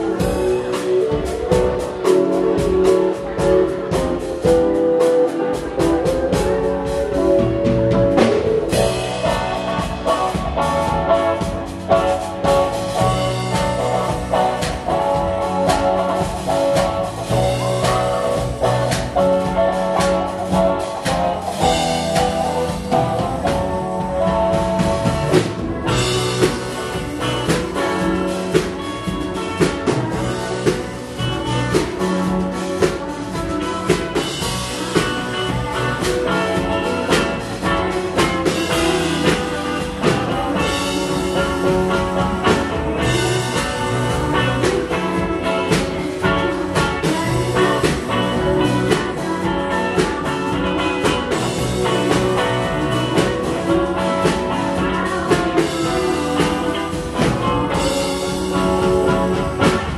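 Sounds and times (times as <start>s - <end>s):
drum kit steady beat: 0.0s - 59.9s
live rock band playing: 0.0s - 59.9s.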